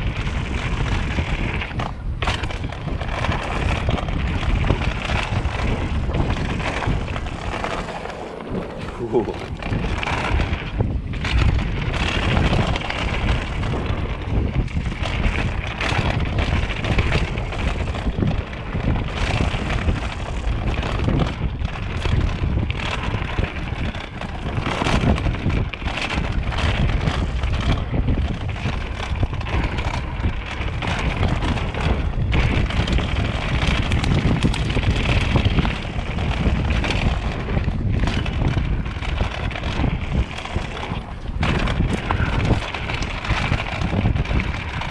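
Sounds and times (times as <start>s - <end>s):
bike rattling and knocking: 0.0s - 44.9s
tyres rolling over dirt and rocks: 0.0s - 44.9s
wind noise on microphone: 0.0s - 44.9s.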